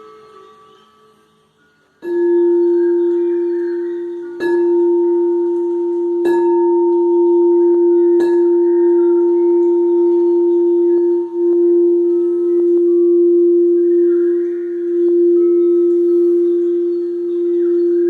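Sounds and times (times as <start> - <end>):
singing bowl struck and ringing: 2.0 - 18.0.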